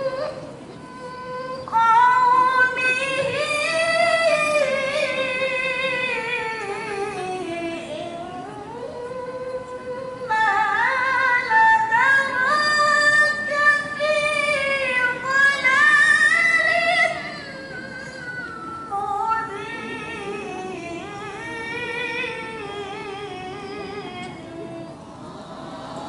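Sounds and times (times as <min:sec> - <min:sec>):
woman reciting melodically: 0:00.0 - 0:25.0.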